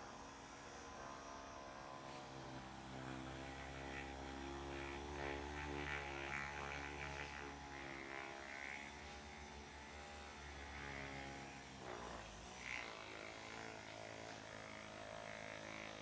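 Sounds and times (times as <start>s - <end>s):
electric massager buzzing: 0.0s - 16.0s.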